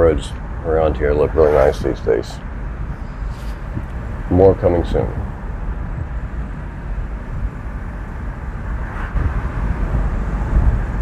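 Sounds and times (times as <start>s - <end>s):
road and wind noise rumble: 0.0s - 11.0s.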